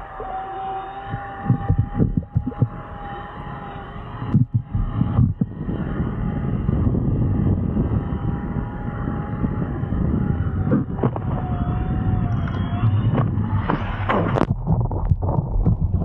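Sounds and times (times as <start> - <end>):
electric motor whine: 0.0 - 14.6
rush of wind and water: 0.0 - 16.0.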